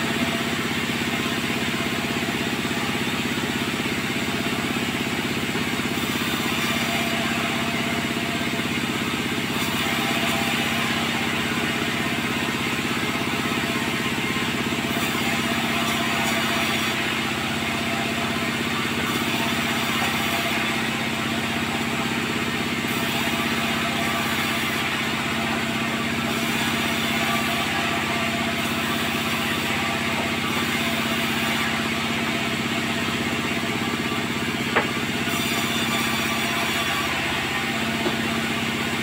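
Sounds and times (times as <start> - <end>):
sawmill machinery hum: 0.0 - 39.0.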